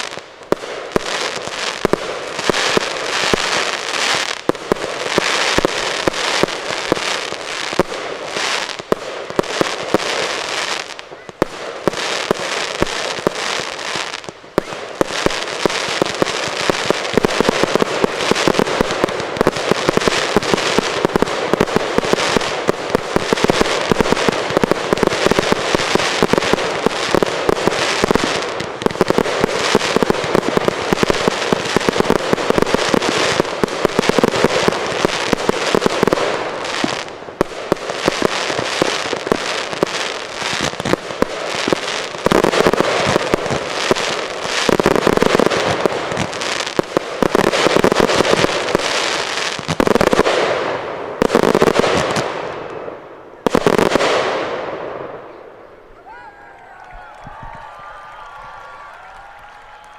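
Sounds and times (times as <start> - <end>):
fireworks crackling and bursting: 0.0 - 59.9.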